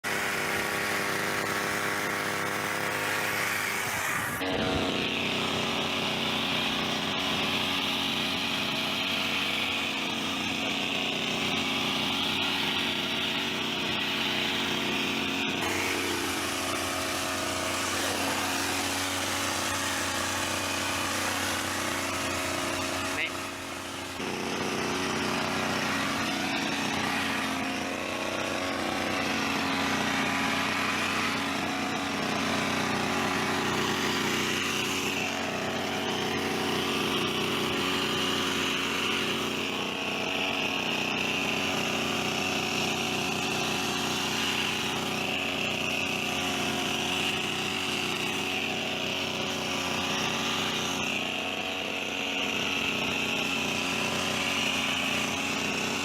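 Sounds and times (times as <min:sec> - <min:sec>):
hedge trimmer engine running: 0:00.0 - 0:56.0.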